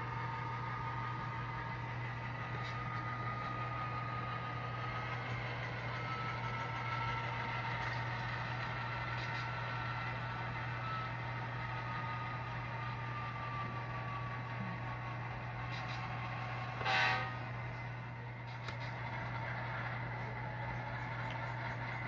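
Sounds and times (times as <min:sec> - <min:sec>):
diesel engine idle from small speaker: 0:00.0 - 0:22.0.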